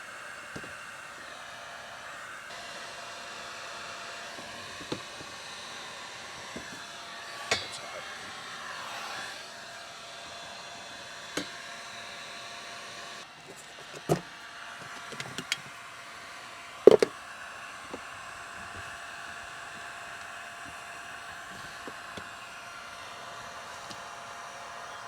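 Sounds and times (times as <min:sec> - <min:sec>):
blower motor whirring: 0:00.0 - 0:25.0.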